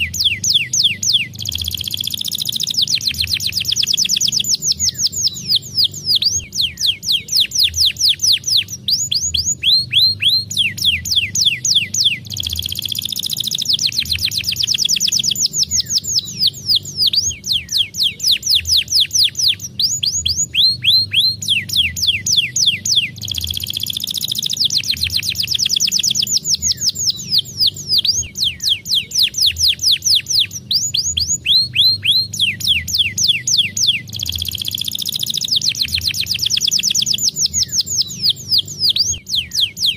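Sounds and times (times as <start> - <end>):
canary singing: 0.0 - 39.9
faint low hum: 0.0 - 39.9.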